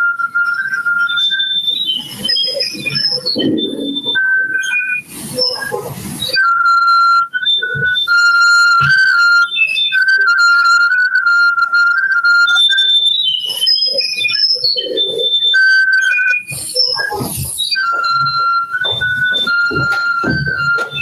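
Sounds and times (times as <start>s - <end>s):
audio feedback howl: 0.0s - 21.0s
mixed noise: 0.0s - 21.0s.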